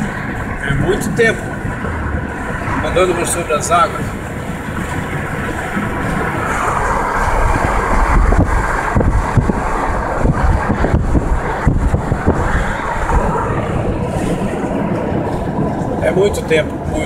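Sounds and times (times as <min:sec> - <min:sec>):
road and tyre noise: 0:00.0 - 0:17.0
wind noise: 0:00.0 - 0:17.0.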